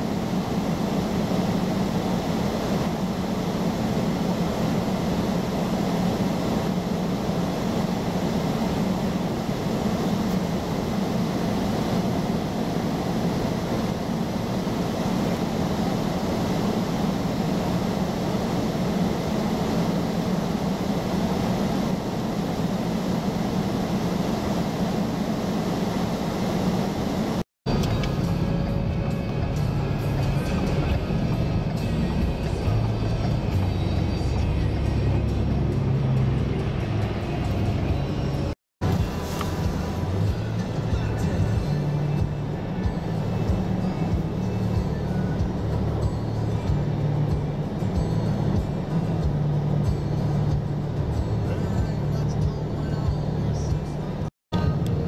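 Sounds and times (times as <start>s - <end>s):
car engine idling in cabin: 0.0s - 55.0s.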